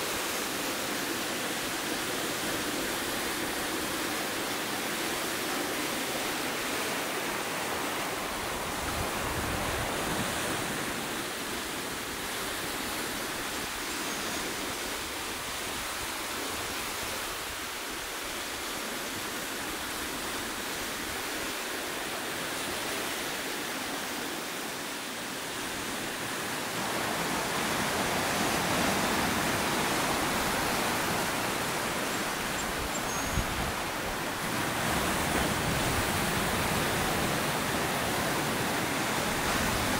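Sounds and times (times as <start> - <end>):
waves breaking on rocky shore: 0.0 - 24.4, 25.5 - 39.9.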